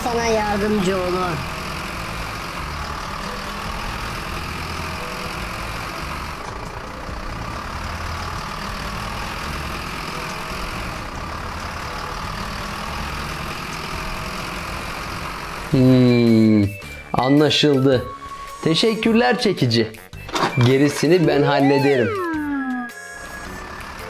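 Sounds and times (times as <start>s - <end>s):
truck engine running: 0.0s - 17.0s, 21.6s - 24.0s.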